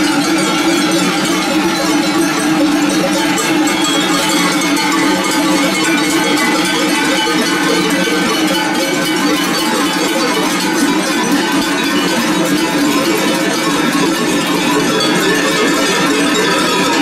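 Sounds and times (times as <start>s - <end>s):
cowbells clanging: 0.0s - 17.0s.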